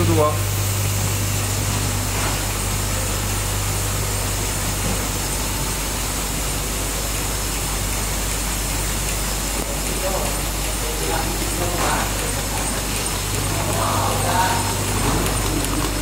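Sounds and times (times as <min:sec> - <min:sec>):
carton machine running: 0:00.0 - 0:16.0
low machine hum: 0:00.0 - 0:16.0.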